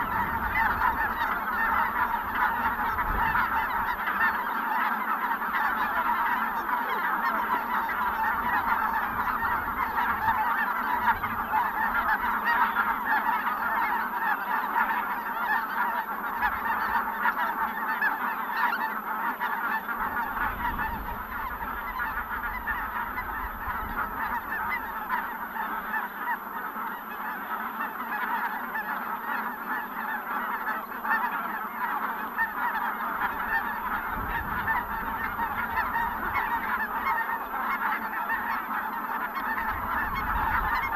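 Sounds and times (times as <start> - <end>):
geese honking: 0.0 - 40.9.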